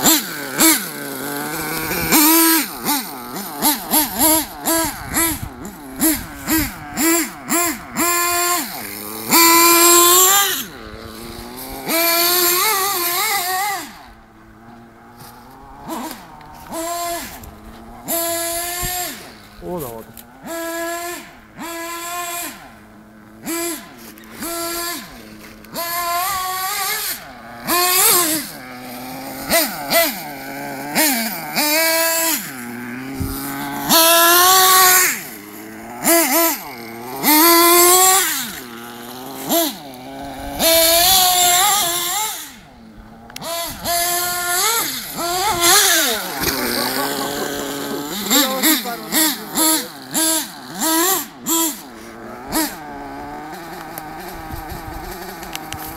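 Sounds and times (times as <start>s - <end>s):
small engine revving: 0.0s - 55.9s.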